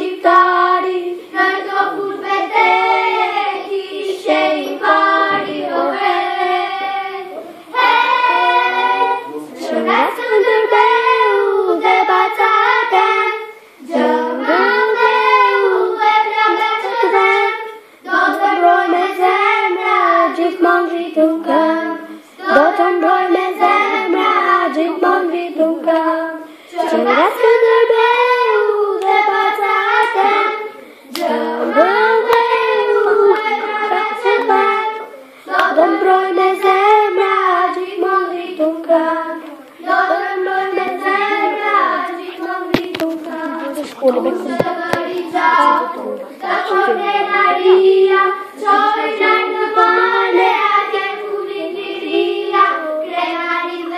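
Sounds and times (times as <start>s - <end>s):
girls singing: 0.0s - 53.9s.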